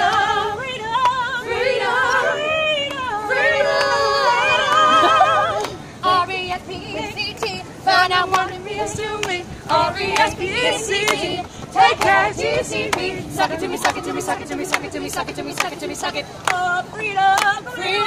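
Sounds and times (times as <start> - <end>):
women singing a cappella: 0.0 - 18.0.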